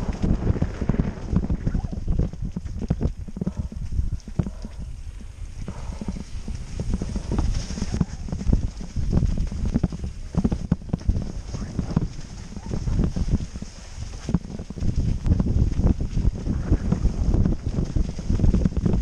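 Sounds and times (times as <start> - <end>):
mountain bike rattling over rough trail: 0.0 - 19.0.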